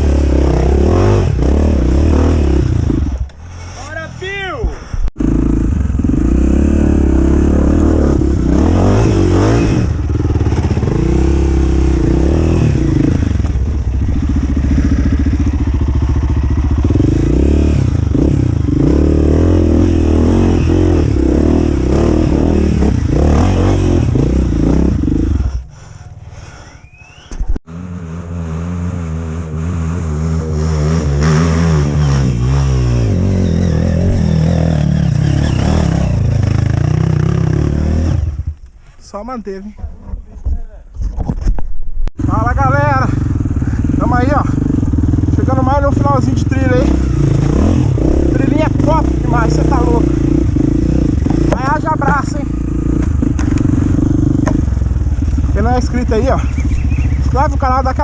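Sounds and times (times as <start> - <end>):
dirt bike engine revving: 0.0 - 38.6, 42.2 - 58.0.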